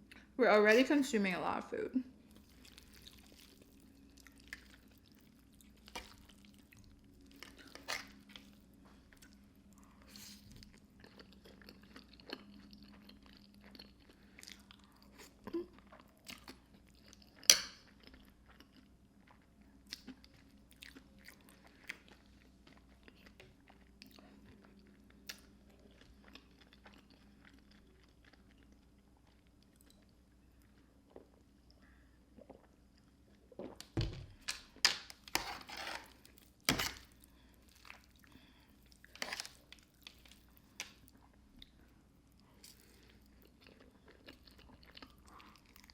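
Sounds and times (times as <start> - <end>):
chewing crunchy food: 2.3 - 45.9.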